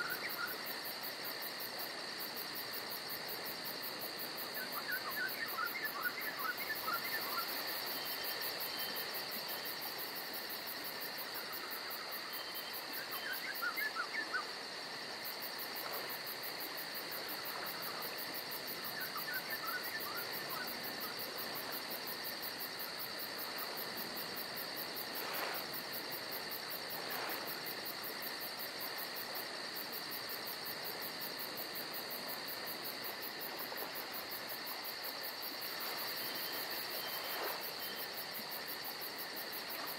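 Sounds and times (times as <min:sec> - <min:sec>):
insects buzzing and trilling: 0:00.0 - 0:39.9.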